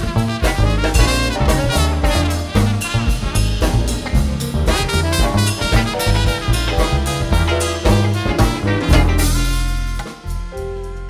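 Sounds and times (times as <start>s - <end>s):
jazz band playing: 0.0s - 11.0s.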